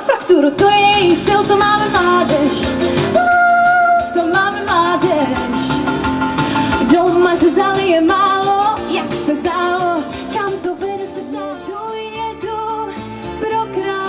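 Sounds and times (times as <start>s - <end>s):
pop backing track with drums: 0.0s - 14.0s
woman singing: 0.0s - 14.0s.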